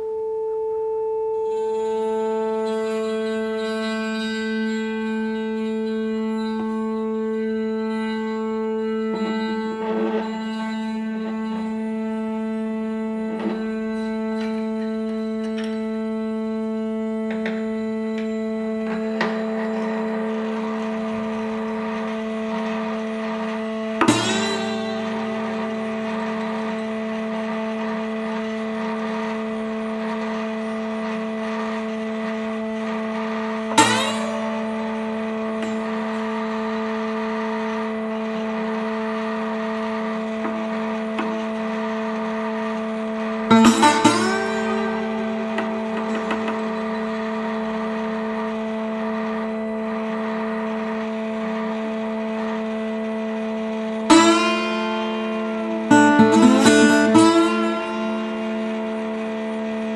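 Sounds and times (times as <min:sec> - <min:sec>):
plucked guitar chord: 0:00.0 - 0:53.2, 0:53.9 - 0:59.9
ambient drone music: 0:00.0 - 0:59.9.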